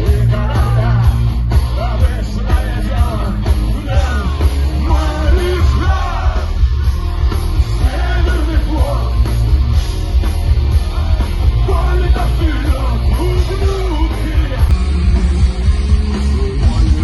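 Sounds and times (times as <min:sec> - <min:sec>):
loud rock music with singing: 0:00.0 - 0:17.0.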